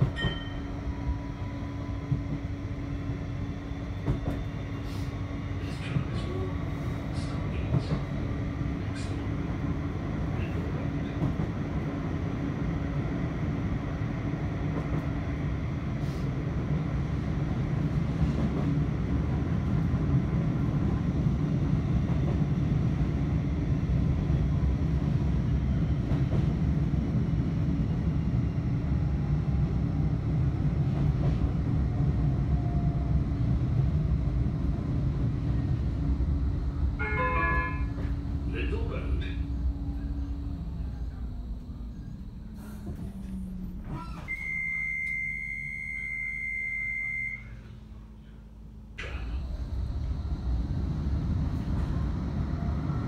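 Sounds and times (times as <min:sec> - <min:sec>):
tram rolling rumble: 0:00.0 - 0:53.0.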